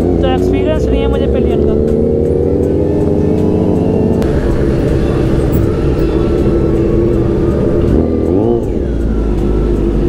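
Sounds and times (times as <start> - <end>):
motorcycle engine revving: 0.0 - 10.0
motorcycle engine running: 0.0 - 10.0.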